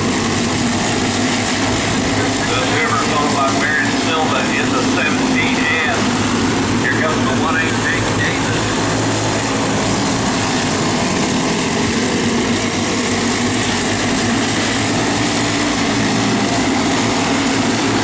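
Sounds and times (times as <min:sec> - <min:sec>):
racing engines droning: 0:00.0 - 0:18.0.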